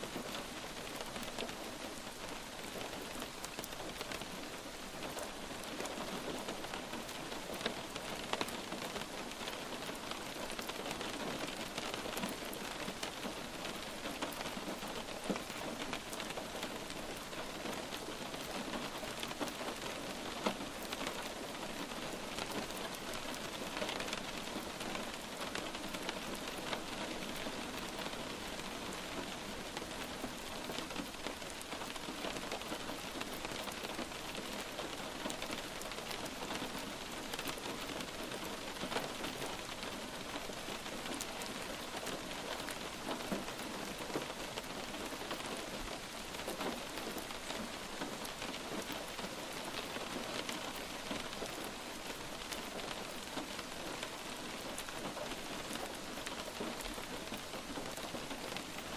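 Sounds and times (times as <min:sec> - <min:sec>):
light rain hissing: 0:00.0 - 0:58.9.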